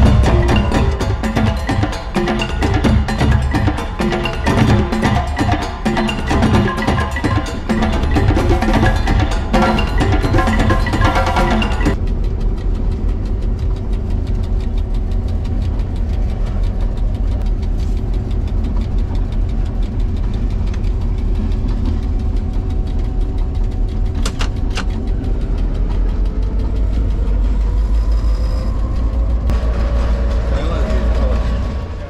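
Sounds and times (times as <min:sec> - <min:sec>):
sharp clicks: 0:00.0 - 0:29.6
locomotive diesel engine rumble: 0:00.0 - 0:32.0
steady whine: 0:00.0 - 0:32.0.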